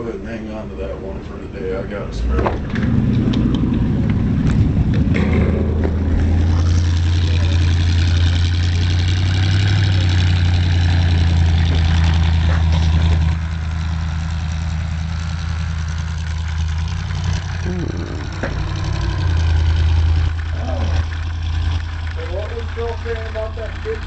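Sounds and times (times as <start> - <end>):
snowmobile engine running: 2.2 - 24.0.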